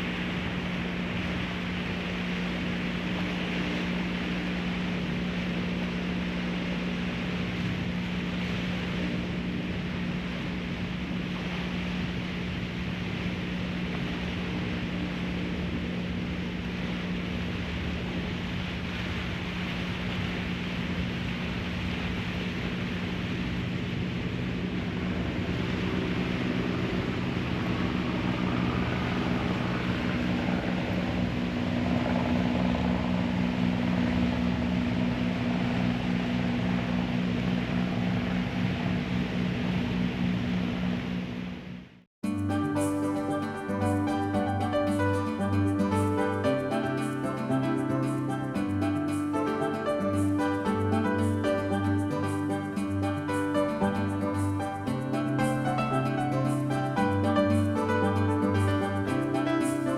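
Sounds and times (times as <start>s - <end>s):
ferry engines droning: 0.0s - 59.9s
water noise: 0.0s - 59.9s
wind: 0.0s - 59.9s.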